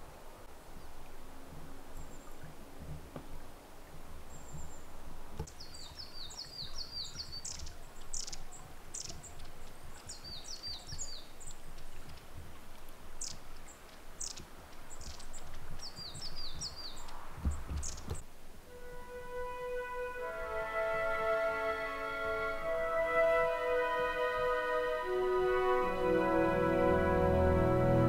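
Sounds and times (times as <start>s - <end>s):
faint wind rumble: 0.0s - 28.0s
songbird singing: 0.0s - 28.0s.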